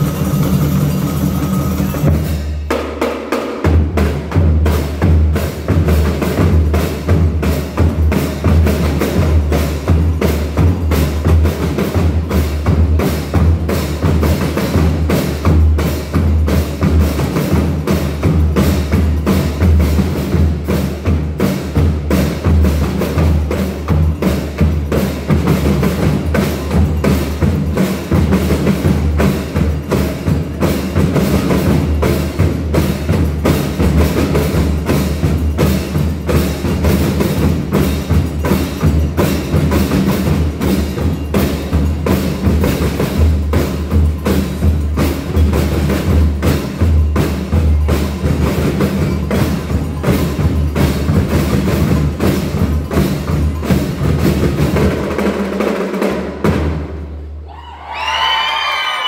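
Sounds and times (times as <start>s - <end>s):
bass drums beating: 0.0s - 2.9s, 3.6s - 57.4s
snare drums beating: 0.0s - 57.3s.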